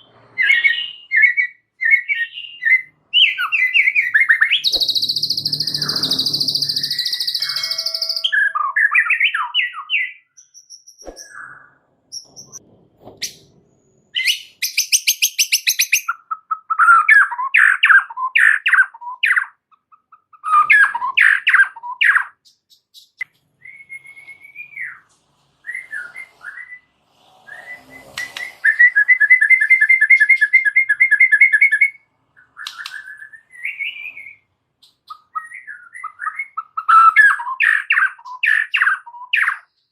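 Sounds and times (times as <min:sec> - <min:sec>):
bird singing varied song: 0:00.0 - 0:12.6, 0:14.2 - 0:26.9, 0:27.5 - 0:39.9.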